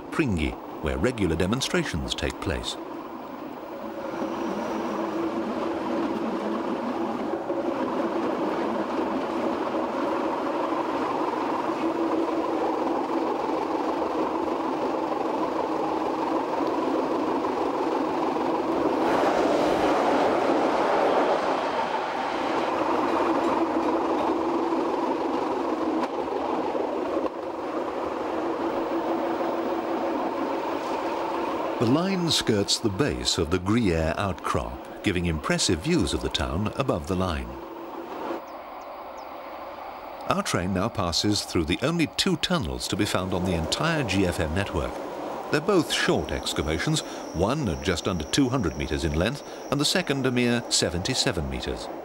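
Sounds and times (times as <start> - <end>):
electric train running: 0.0 - 52.0.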